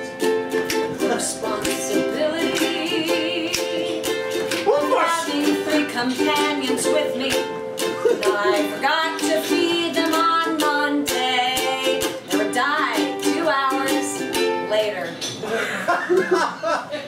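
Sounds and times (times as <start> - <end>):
ukulele strumming chords: 0.0 - 15.2
woman singing: 0.8 - 15.3.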